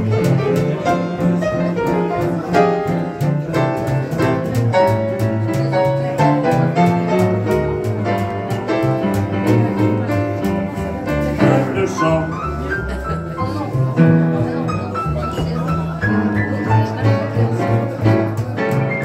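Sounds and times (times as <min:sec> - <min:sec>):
double bass: 0:00.0 - 0:19.0
piano: 0:00.0 - 0:19.0.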